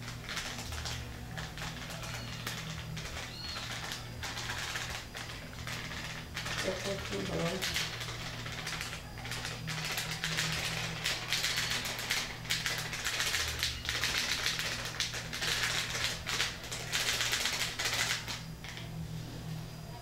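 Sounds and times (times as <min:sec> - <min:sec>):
plastic packet crinkling: 0:00.0 - 0:18.9
low steady hum: 0:00.0 - 0:20.0.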